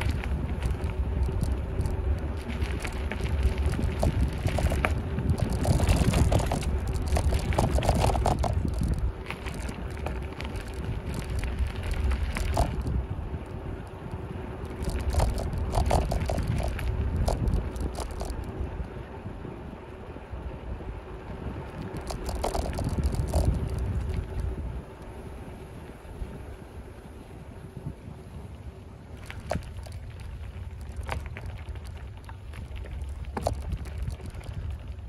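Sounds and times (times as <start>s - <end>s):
bicycle rattling and clicking: 0.0s - 26.6s, 29.1s - 35.0s
wind buffeting microphone: 0.0s - 35.0s.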